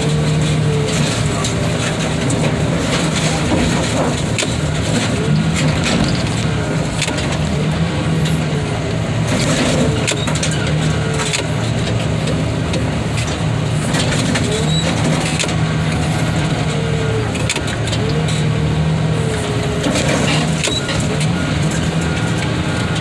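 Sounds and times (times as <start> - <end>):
car crusher engine running: 0.0 - 23.0
metal clicking and crunching: 0.0 - 23.0.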